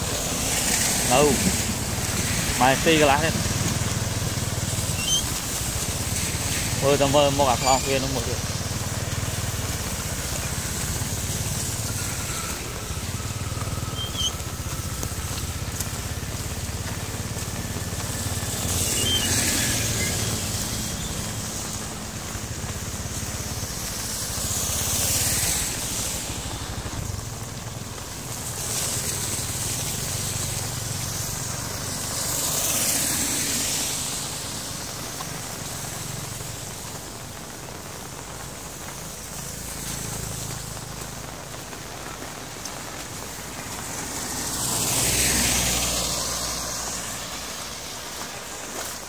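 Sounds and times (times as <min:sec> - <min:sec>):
tyres hissing on wet road: 0:00.0 - 0:49.0.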